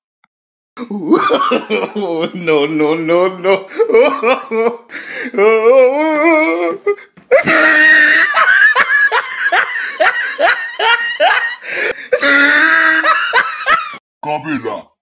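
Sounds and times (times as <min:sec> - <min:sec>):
person laughing: 0:00.8 - 0:14.0.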